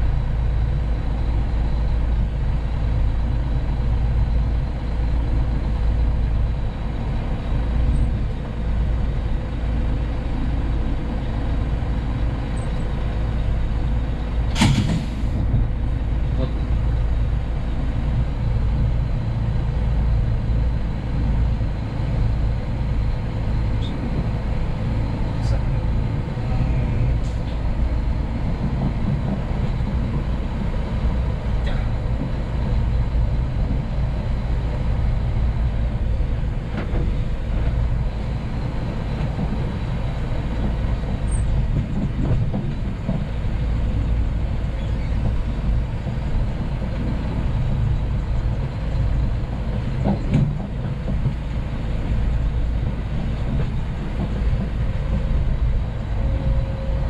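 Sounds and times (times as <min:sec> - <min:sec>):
road and rattle noise: 0:00.0 - 0:57.0
truck diesel engine rumble: 0:00.0 - 0:57.0.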